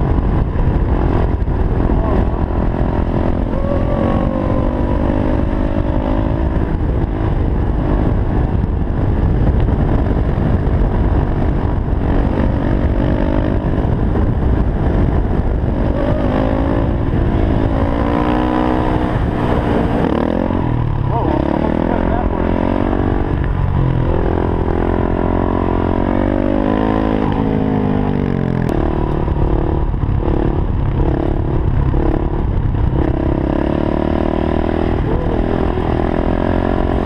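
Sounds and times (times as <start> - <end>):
motorcycle engine revving: 0.0 - 37.0
wind rumble on microphone: 0.0 - 37.0.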